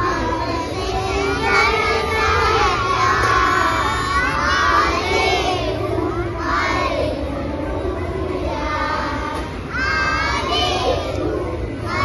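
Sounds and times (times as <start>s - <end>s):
children shouting and cheering: 0.0s - 12.0s.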